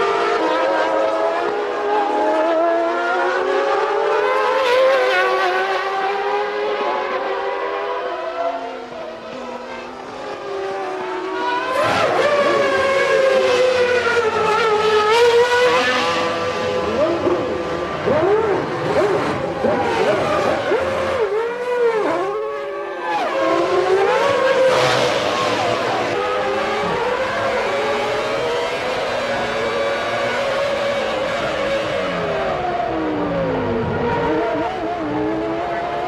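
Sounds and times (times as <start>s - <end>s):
race car engines at high revs: 0.0s - 36.0s.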